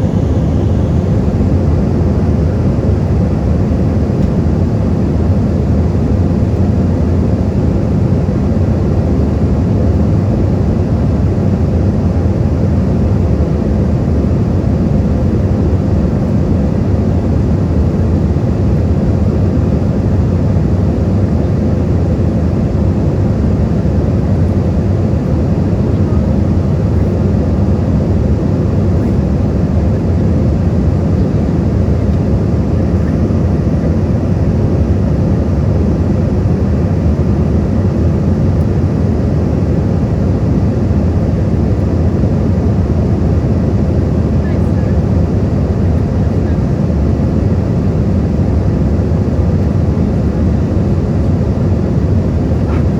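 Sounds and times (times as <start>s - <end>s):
airliner cabin rumble: 0.0s - 52.9s
faint steady hum: 0.0s - 52.9s.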